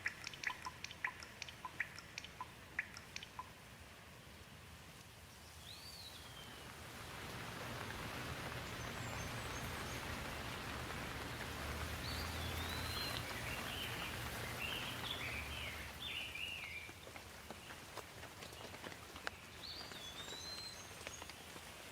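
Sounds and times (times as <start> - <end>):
bird chirping: 0.0 - 3.6, 5.4 - 6.7, 7.5 - 17.8, 18.4 - 21.5
rain falling: 0.0 - 21.9.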